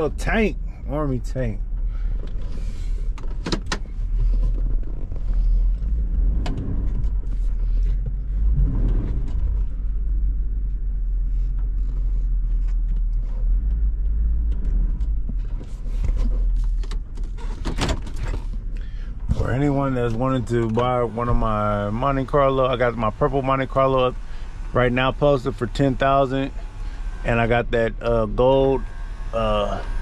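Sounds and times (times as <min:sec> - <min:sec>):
engine running low rumble: 0:00.0 - 0:30.0.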